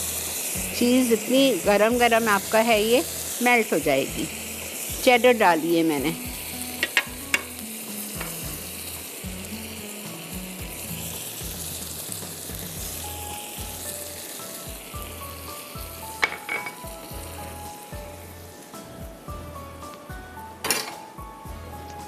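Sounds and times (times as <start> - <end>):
food sizzling in a hot pan: 0.0 - 22.0.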